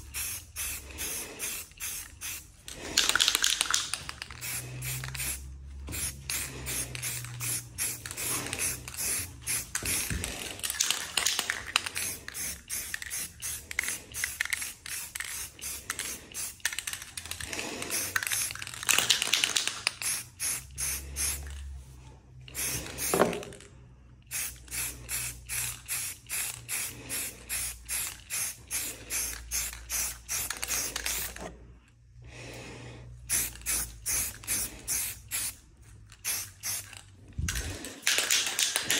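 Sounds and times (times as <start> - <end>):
spray can ball rattling: 0.0 - 21.7, 22.6 - 23.6, 24.3 - 31.4, 33.3 - 38.9.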